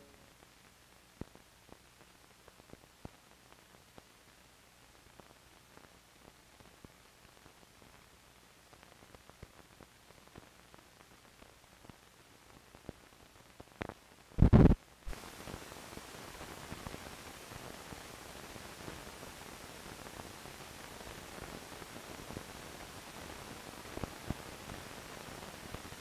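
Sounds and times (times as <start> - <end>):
film crackles and pops: 0.0 - 26.0
steady hiss: 0.0 - 26.0.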